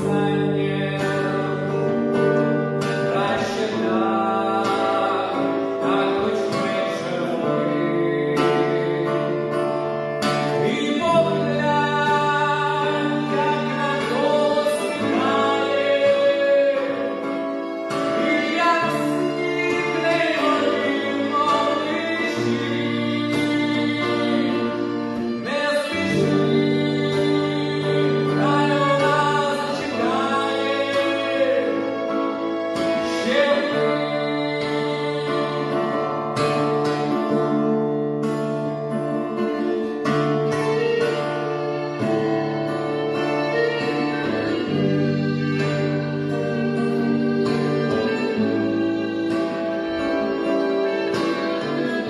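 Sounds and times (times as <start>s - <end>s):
song with singing and accompaniment: 0.0s - 52.0s.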